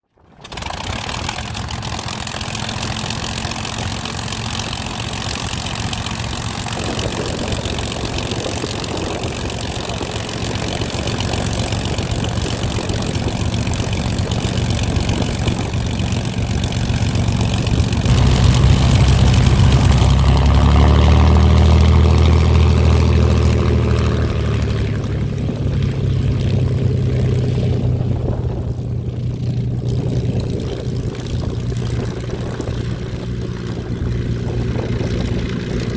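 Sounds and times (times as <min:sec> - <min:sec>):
propeller aircraft engine: 0:00.0 - 0:35.9.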